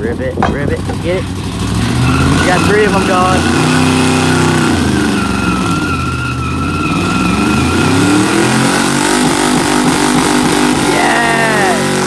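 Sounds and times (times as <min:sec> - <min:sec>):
wheels spinning: 0:00.0 - 0:11.9
engine revving high: 0:00.8 - 0:12.0.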